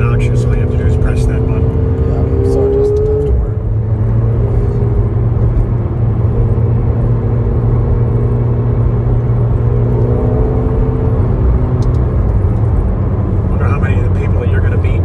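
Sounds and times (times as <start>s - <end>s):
car engine drone in cabin: 0.0s - 15.0s.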